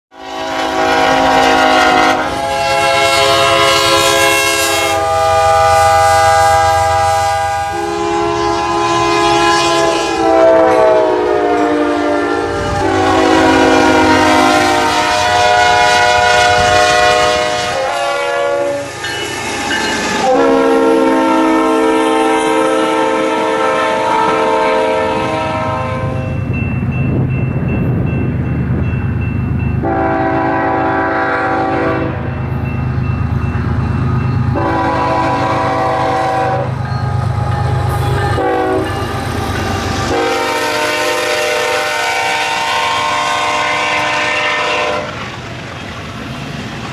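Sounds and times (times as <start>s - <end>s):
train air horn blasts: 0.1s - 26.4s, 29.8s - 32.3s, 34.5s - 45.3s
low train rumble: 0.1s - 46.9s.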